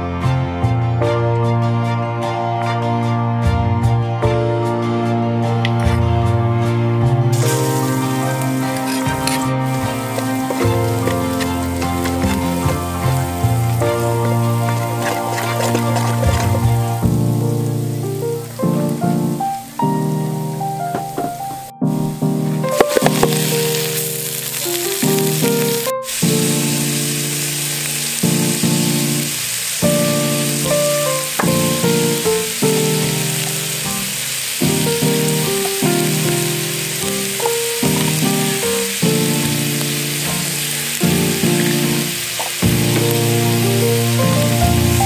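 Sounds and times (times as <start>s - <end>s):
instrumental background music: 0.0s - 45.0s
meat sizzling in hot oil: 7.3s - 45.0s.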